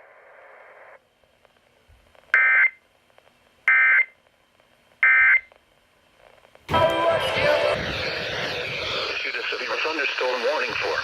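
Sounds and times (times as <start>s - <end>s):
faint broadcast hiss: 0.0s - 11.0s.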